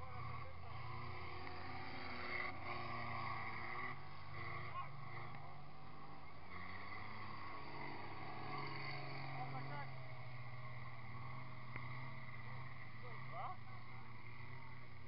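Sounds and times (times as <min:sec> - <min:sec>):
diesel engines running hard: 0:00.0 - 0:15.0.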